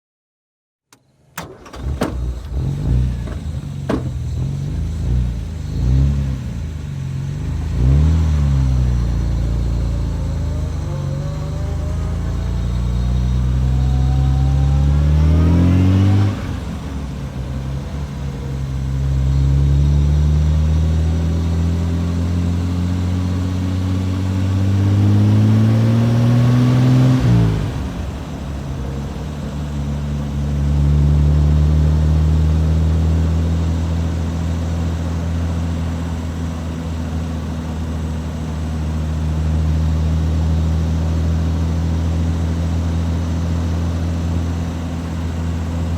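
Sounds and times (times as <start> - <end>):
car engine accelerating through gears: 1.5 - 45.9.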